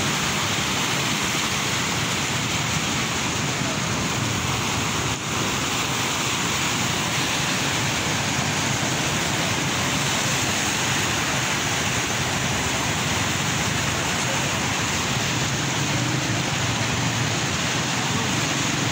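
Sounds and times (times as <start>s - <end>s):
floodwater rushing: 0.0s - 18.9s.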